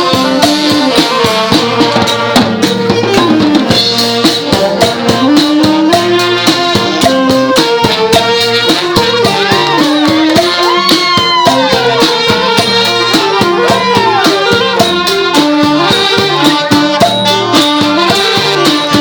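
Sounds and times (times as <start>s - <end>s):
brass band playing melody: 0.0s - 19.0s
rattling percussion: 0.0s - 19.0s
steady drum beat: 0.0s - 19.0s.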